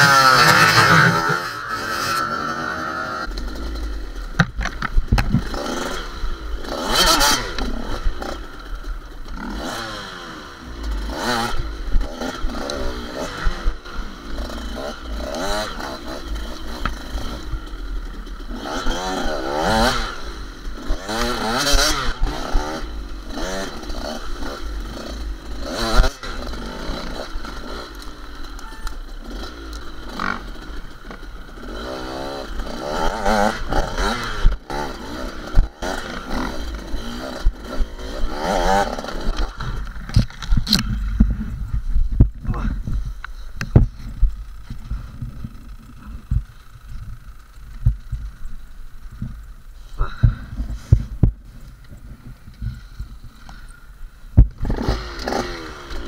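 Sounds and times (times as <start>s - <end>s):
dirt bike engine revving: 0.0s - 48.6s, 54.4s - 56.0s
steady low rumble: 2.3s - 9.5s, 10.1s - 32.9s, 33.5s - 55.0s.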